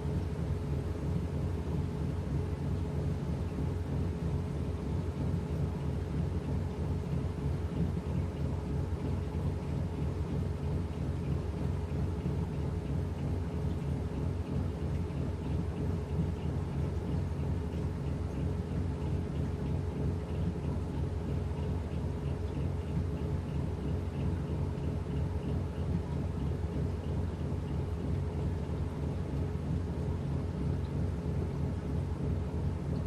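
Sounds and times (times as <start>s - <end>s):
washing machine humming: 0.0s - 33.0s.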